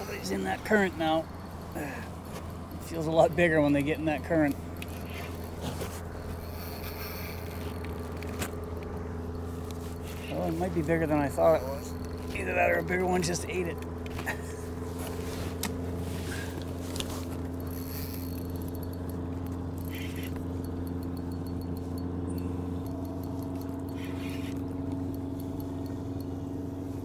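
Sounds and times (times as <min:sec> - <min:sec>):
fishing reel scratching: 0:00.0 - 0:14.0, 0:16.9 - 0:27.0
electric motor hum: 0:00.0 - 0:27.0
higher motor tone: 0:00.0 - 0:27.0.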